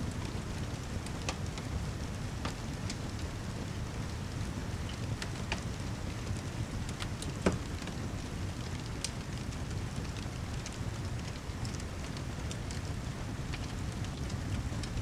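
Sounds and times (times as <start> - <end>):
rain: 0.0 - 15.0.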